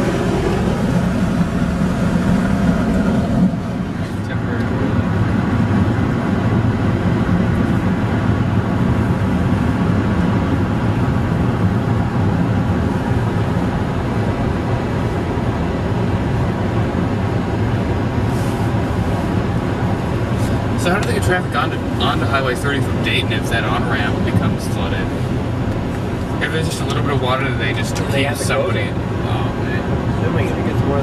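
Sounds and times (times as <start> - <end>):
car wind and road noise: 0.0 - 31.0.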